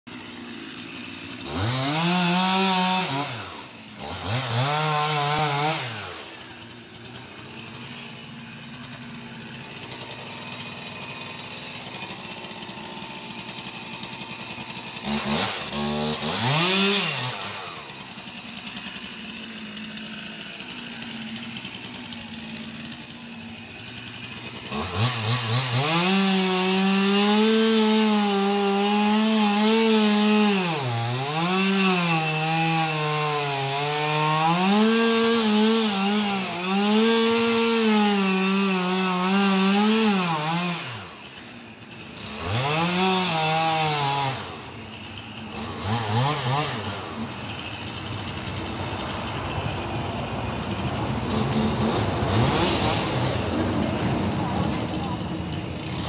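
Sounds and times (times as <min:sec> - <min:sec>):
chainsaw cutting wood: 0:00.1 - 0:56.0
chainsaw revving and idling: 0:00.1 - 0:56.0.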